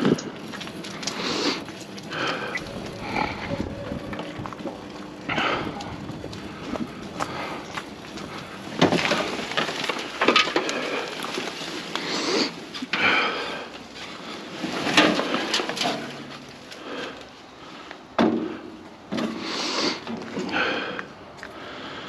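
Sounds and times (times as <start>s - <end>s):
wheelbarrow clattering and scraping: 0.0s - 21.0s.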